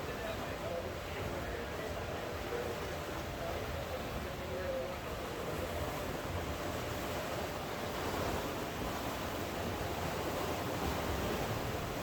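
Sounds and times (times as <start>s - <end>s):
sea surf: 0.0s - 12.0s.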